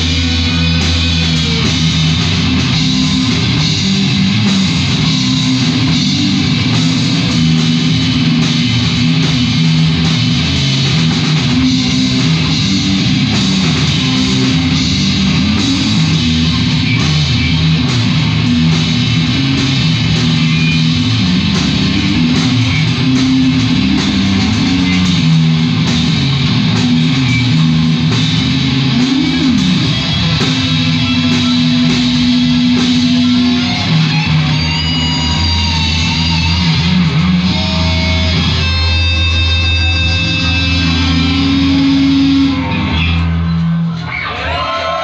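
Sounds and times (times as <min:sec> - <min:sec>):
electric guitar: 0:00.0 - 0:45.0
rock band playing live: 0:00.0 - 0:45.0.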